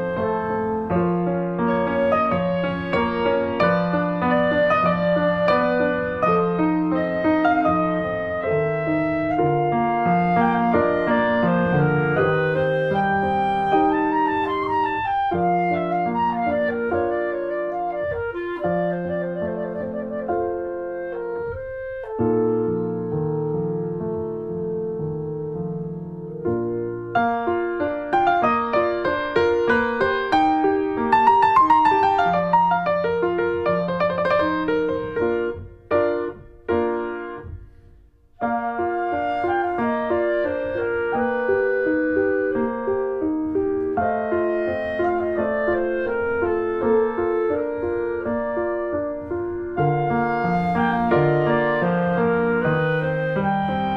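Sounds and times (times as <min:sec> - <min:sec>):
clarinet-like woodwind melody: 0:00.0 - 0:37.6, 0:38.4 - 0:53.9
piano chords: 0:00.0 - 0:53.9.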